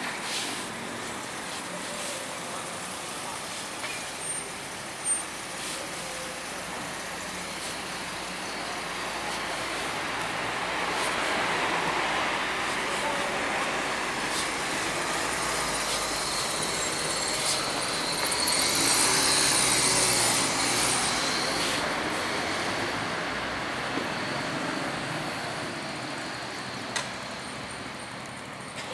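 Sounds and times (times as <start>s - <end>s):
road traffic passing: 0.0s - 28.9s.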